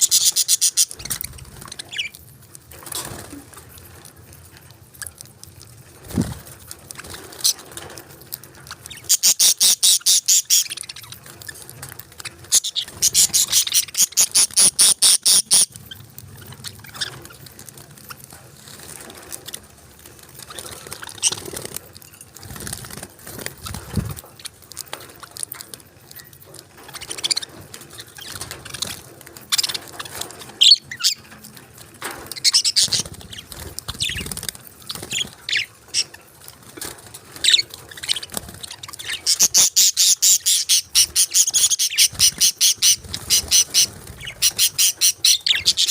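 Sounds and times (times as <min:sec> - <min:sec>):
budgerigars chirping and chattering: 0:00.0 - 0:02.2, 0:06.0 - 0:18.4, 0:20.4 - 0:31.4, 0:32.0 - 0:45.9.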